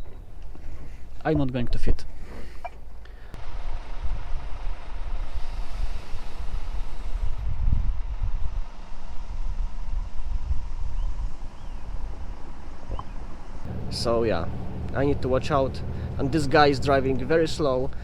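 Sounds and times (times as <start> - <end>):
truck engine rumble: 2.4 - 18.0.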